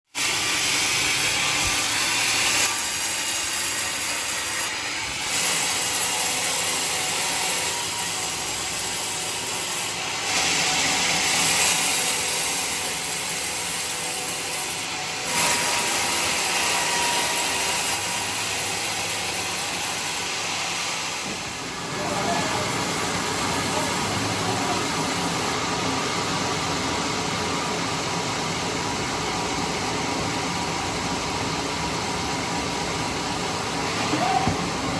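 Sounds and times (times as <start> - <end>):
band saw cutting log: 0.1 - 28.2.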